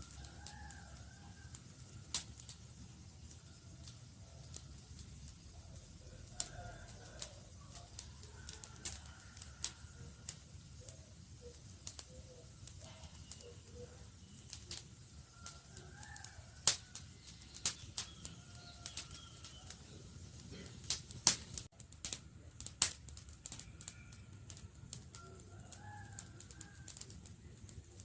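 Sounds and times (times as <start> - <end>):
campfire crackling: 0.0 - 28.0
low rumble of flame: 0.0 - 28.0.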